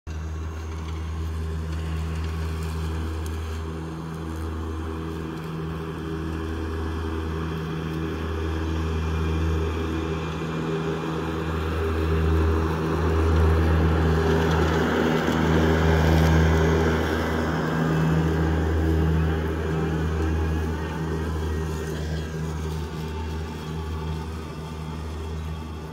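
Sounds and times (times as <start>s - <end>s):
electric mower motor hum: 0.1s - 25.9s
mower blades whirring: 0.1s - 25.9s.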